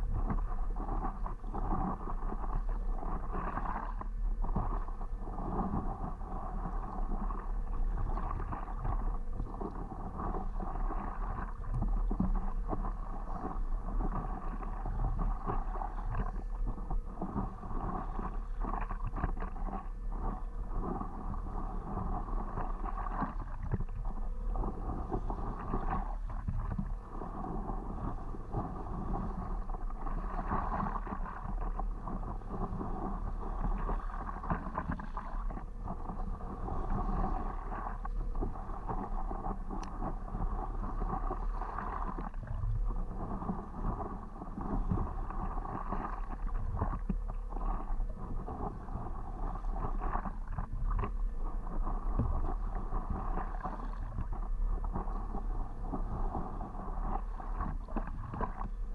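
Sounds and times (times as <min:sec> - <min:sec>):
paddle strokes swishing through water: 0:00.0 - 0:58.9.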